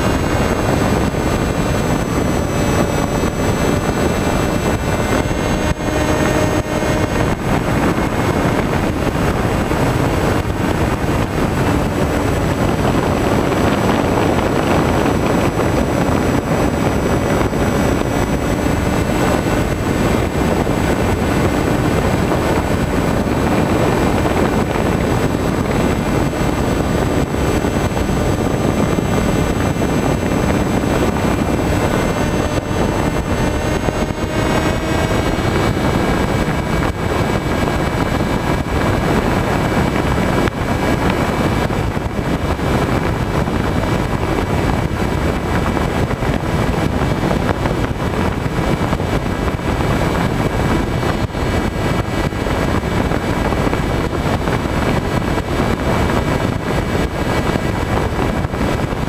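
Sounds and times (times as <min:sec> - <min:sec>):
electric motor and propeller whining: 0:00.0 - 0:59.0
wind rushing over microphone: 0:00.0 - 0:59.0.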